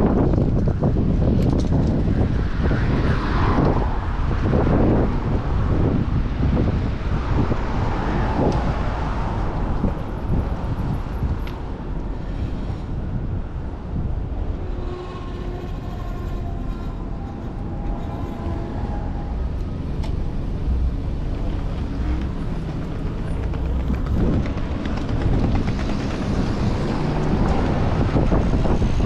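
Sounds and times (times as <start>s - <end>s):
city traffic: 0.0s - 29.0s
wind buffeting microphone: 0.0s - 29.0s.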